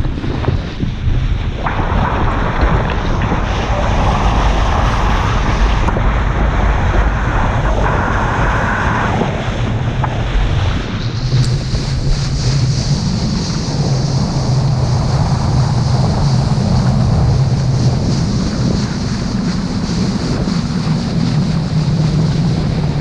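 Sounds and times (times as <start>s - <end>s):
boat wake and spray rushing: 0.0s - 23.0s
wind buffeting microphone: 0.0s - 23.0s
hiss of water: 1.7s - 20.3s.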